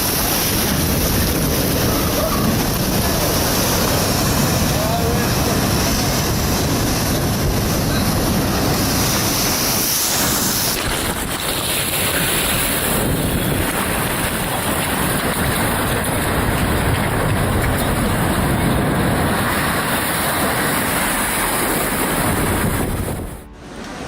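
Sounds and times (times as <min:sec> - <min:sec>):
wind buffeting microphone: 0:00.0 - 0:23.8
heavy surf rushing: 0:00.0 - 0:24.0.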